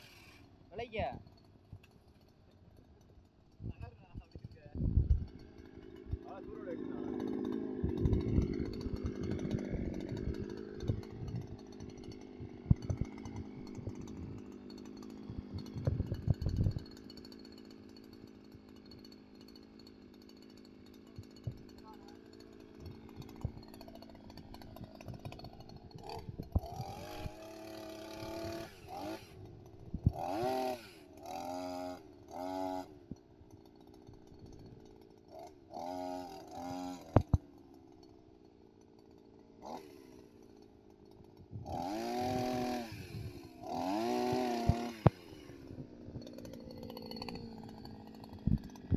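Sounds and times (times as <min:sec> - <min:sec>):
brush cutter engine revving: 0:00.0 - 0:48.9.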